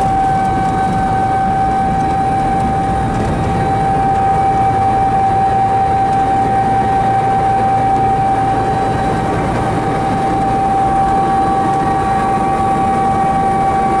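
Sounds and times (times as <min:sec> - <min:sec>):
helicopter cabin drone and whine: 0:00.0 - 0:14.0.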